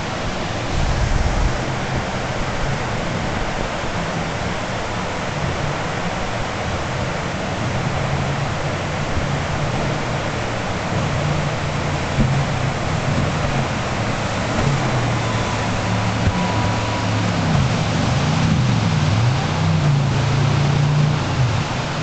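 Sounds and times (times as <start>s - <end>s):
boat engine drone: 0.0s - 22.0s
whitewater rapids rushing: 0.0s - 22.0s.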